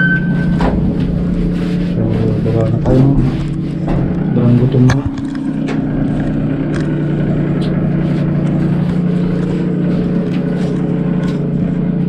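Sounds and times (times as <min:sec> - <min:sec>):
elevator low hum: 0:00.0 - 0:12.0.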